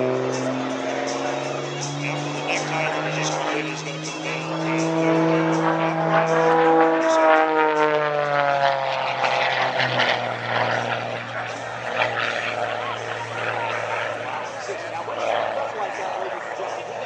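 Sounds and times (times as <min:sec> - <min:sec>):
propeller plane flying past: 0:00.0 - 0:17.0.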